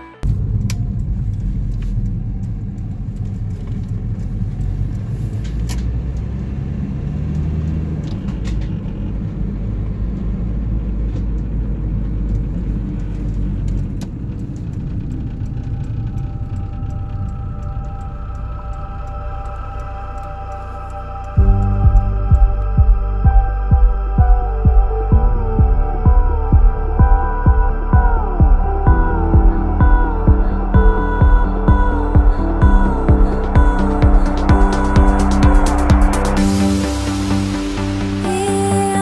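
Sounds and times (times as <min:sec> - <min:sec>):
car engine and road rumble: 0:00.2 - 0:39.0.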